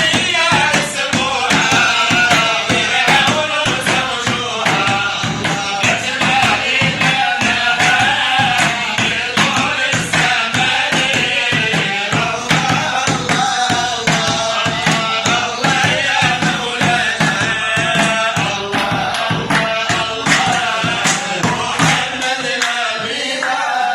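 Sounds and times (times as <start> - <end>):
hand percussion beat: 0.0 - 23.1
folk singing: 0.0 - 23.9.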